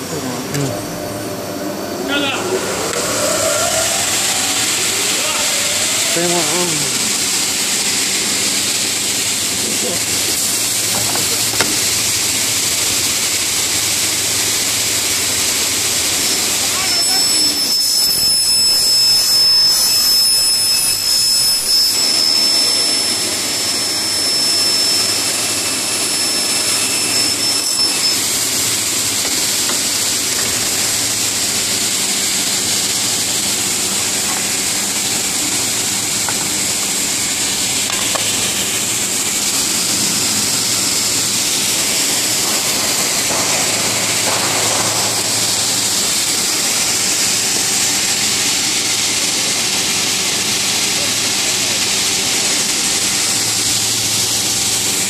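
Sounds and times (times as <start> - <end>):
saw blades rushing hiss: 0.0 - 55.0
saw motor whining: 0.0 - 55.0.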